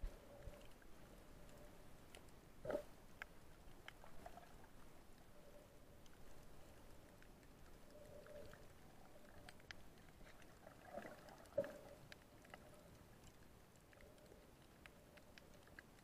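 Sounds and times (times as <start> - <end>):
small underwater clicks: 0.1 - 16.0.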